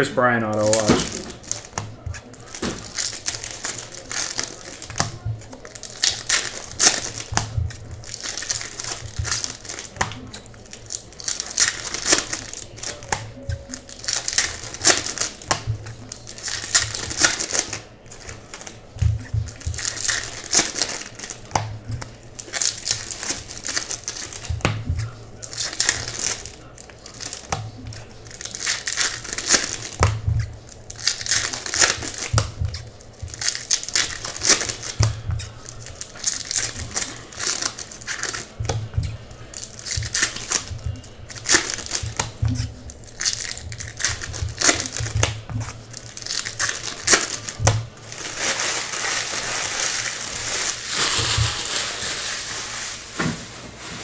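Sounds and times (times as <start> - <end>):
foil wrappers crinkling and tearing: 0.0 - 54.0.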